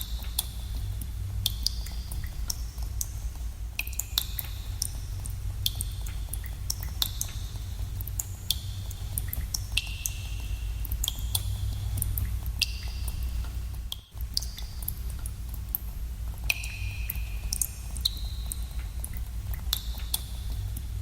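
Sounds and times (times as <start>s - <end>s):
water drops plinking in cave: 0.0s - 3.2s, 3.8s - 20.9s
low steady rumble: 0.0s - 21.0s.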